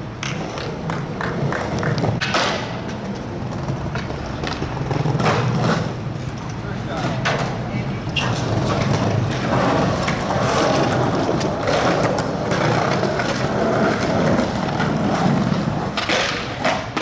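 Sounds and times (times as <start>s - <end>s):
skateboard wheels on rough pavement: 0.0s - 17.0s.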